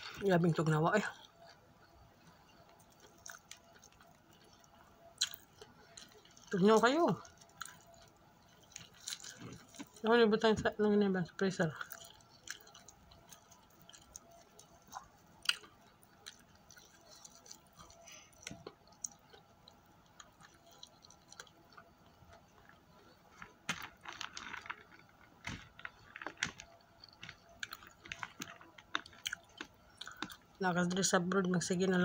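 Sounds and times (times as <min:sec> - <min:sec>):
person chewing: 0:01.2 - 0:10.0, 0:11.7 - 0:30.6.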